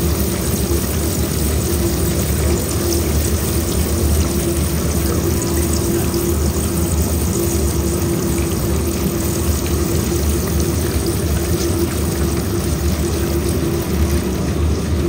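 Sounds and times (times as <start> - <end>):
constant hum: 0.0 - 15.0
low machine drone: 0.0 - 15.0
water churning in metal bucket: 0.0 - 15.0.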